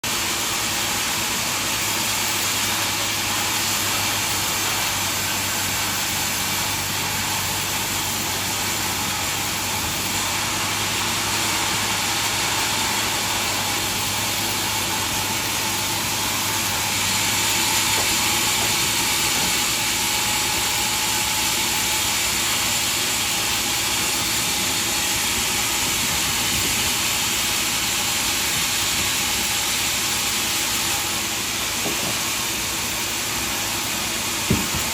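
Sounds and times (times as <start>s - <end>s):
sawmill machinery hiss: 0.0s - 34.9s.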